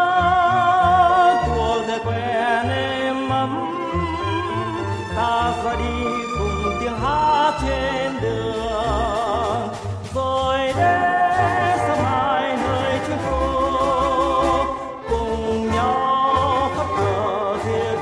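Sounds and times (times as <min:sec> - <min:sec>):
man singing with vibrato: 0:00.0 - 0:18.0
orchestral accompaniment: 0:00.0 - 0:18.0.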